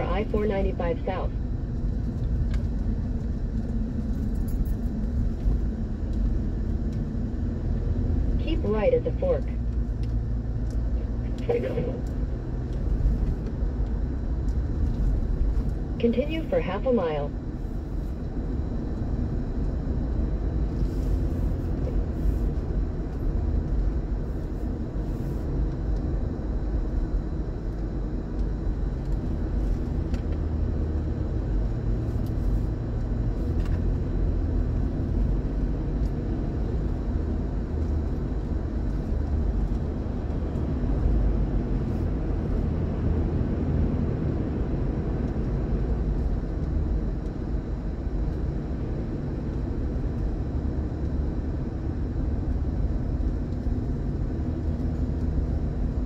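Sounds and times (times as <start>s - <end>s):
car rumble from inside: 0.0s - 56.0s.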